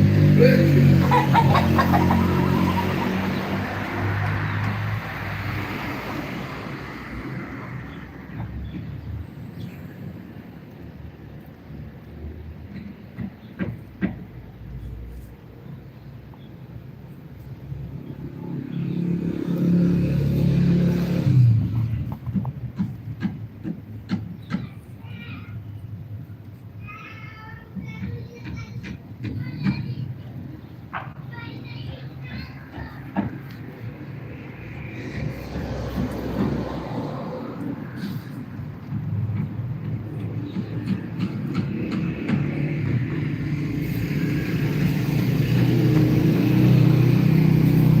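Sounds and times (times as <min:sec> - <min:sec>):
motor vehicle passing: 0:00.0 - 0:24.6, 0:28.4 - 0:48.0.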